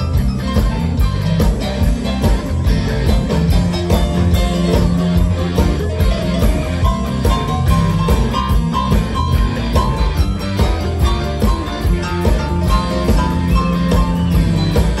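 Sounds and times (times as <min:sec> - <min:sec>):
blues-rock band playing: 0:00.0 - 0:15.0
high held guitar notes: 0:00.0 - 0:15.0.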